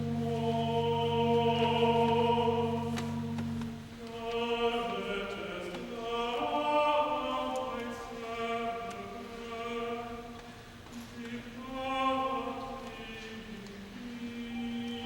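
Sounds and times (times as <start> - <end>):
choir singing slowly: 0.0 - 15.0.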